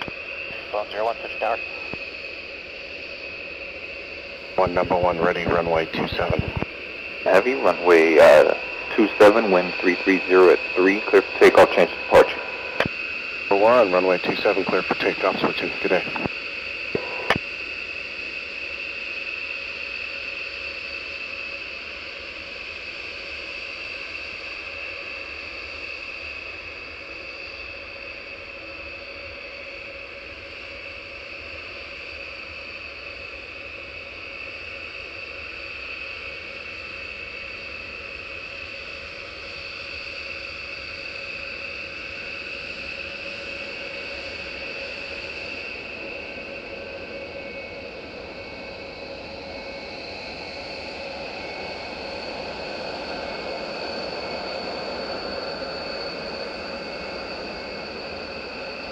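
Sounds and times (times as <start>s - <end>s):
jet engines whining: 0.0s - 58.9s.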